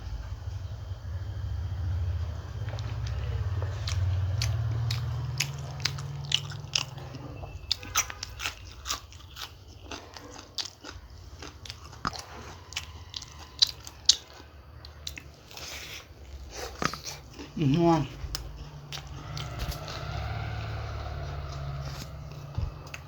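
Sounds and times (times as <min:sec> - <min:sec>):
low hum: 0:00.0 - 0:07.7, 0:11.0 - 0:23.0
crunchy pastry being chewed: 0:02.5 - 0:23.0.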